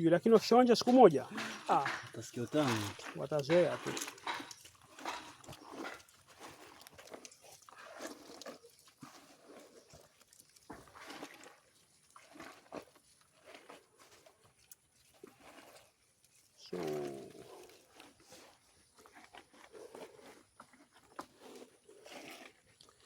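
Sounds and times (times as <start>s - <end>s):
hands squishing wet feed: 0.3s - 23.0s.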